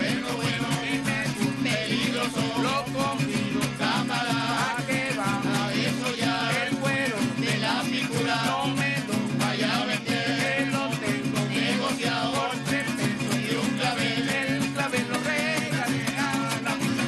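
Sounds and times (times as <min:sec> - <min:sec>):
men singing a folk song: 0:00.0 - 0:17.0
small strummed string instruments: 0:00.0 - 0:17.0
strummed guitar: 0:00.0 - 0:17.0.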